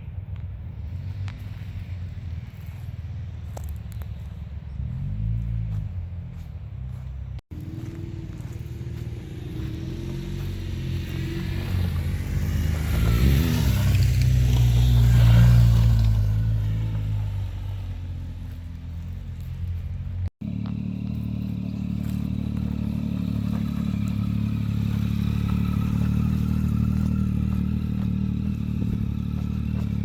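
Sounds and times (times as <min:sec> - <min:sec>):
vehicle engine passing: 0:00.6 - 0:30.0.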